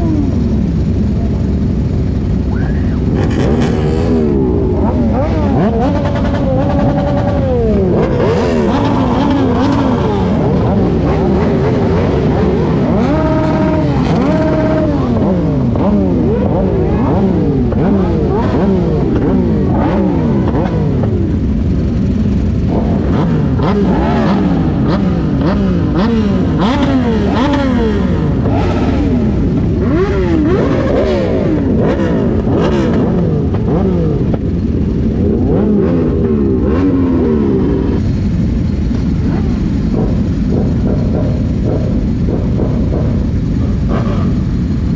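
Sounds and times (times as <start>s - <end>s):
motorcycle engines idling: 0.0s - 44.9s.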